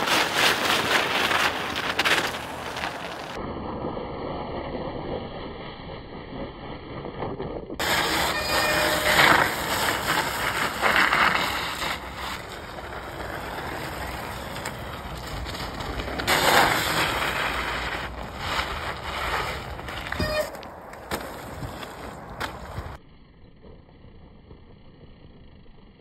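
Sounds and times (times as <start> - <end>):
studded bike tyres crunching on ice: 0.0 - 23.0.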